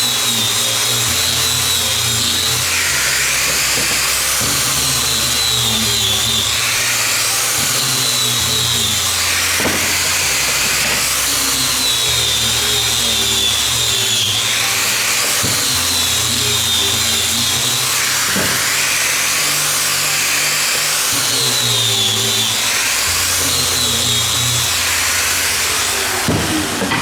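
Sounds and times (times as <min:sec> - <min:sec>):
power tool running: 0:00.0 - 0:27.0.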